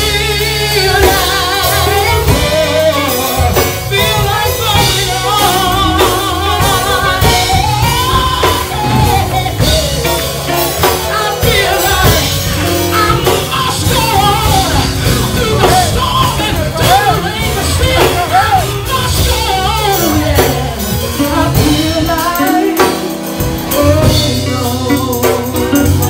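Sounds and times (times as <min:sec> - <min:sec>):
live gospel music: 0:00.0 - 0:26.0
people singing: 0:00.0 - 0:26.0.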